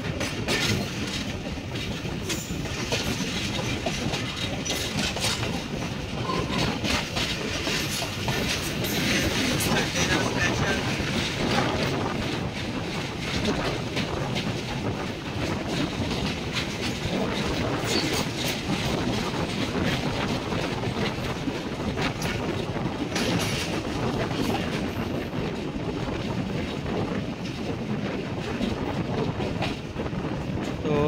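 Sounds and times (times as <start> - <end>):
wheels clattering over rail joints: 0.0 - 30.8
train rumbling on track: 0.0 - 31.0.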